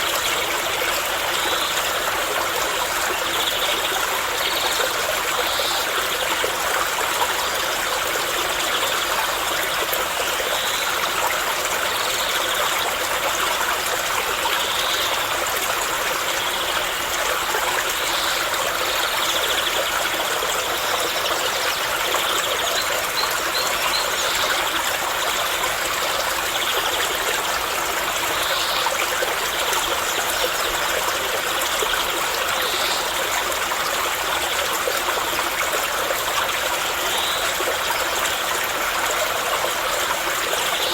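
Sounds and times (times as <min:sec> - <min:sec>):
water flowing and trickling: 0:00.0 - 0:40.9.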